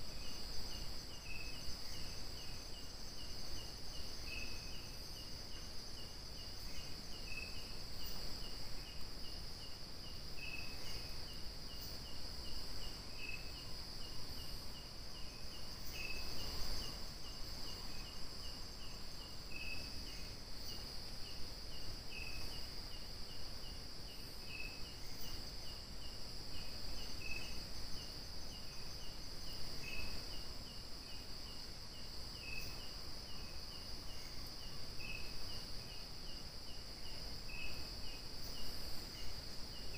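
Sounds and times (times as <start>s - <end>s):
cricket chirps: 0.0s - 39.9s
insects buzzing chorus: 0.0s - 39.9s.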